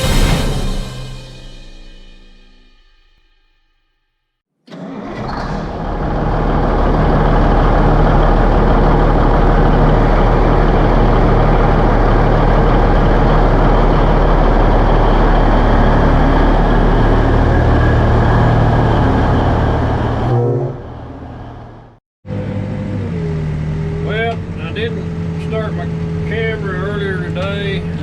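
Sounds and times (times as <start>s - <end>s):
heavy diesel engine running: 4.8s - 28.0s.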